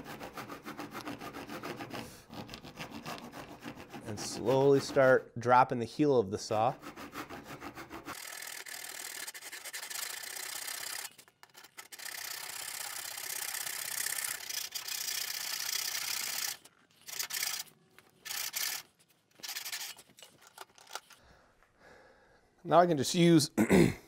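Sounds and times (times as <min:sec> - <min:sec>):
hand saw cutting wood: 0:00.0 - 0:05.5, 0:06.5 - 0:21.1.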